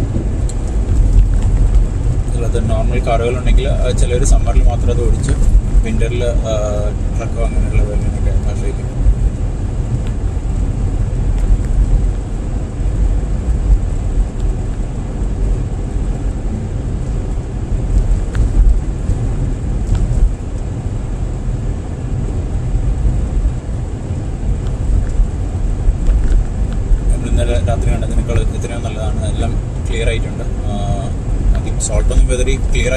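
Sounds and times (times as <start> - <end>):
car engine running: 0.0 - 32.9
tyres rumbling on road: 0.0 - 32.9.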